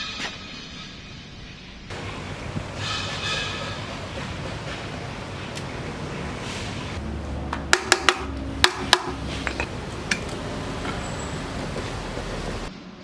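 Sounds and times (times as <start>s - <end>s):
sharp metallic clinks and knocks: 1.9s - 12.7s
steady background noise: 1.9s - 13.0s.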